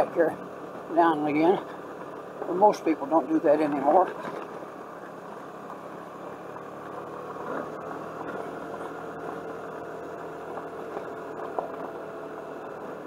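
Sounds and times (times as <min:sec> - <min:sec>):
scooter engine humming: 0:00.0 - 0:13.0.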